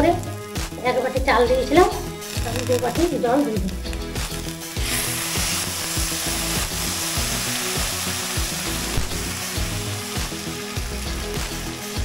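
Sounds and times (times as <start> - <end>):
water sizzling in hot wok: 0.1 - 12.0.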